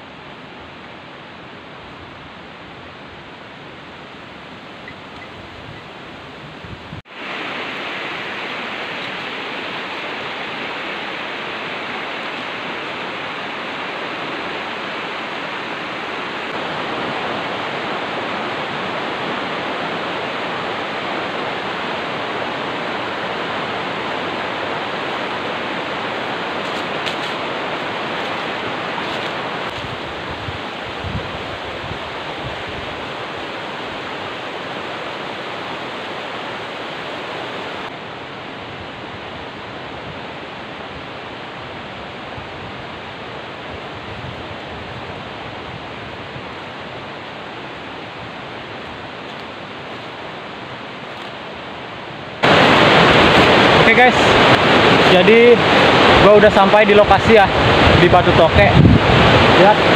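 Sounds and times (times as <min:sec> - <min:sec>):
steady rushing hiss: 0:03.2 - 0:38.6, 0:46.1 - 0:59.9.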